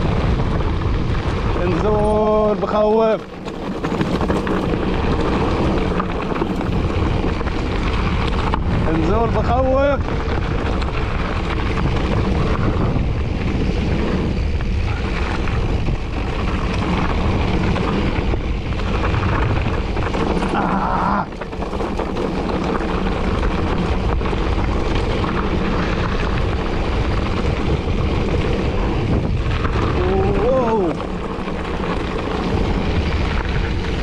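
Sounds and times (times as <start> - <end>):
tyres rumbling over rough trail: 0.0 - 34.0
wind buffeting microphone: 0.0 - 34.0.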